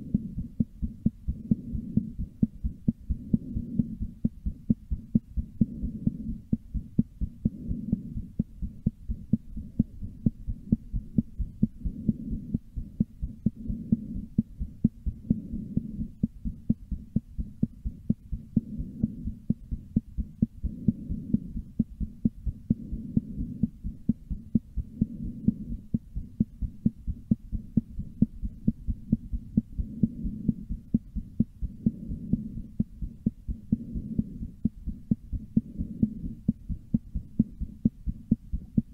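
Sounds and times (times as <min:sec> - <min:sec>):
heartbeat thumps: 0:00.0 - 0:38.9
low hum: 0:00.0 - 0:38.9.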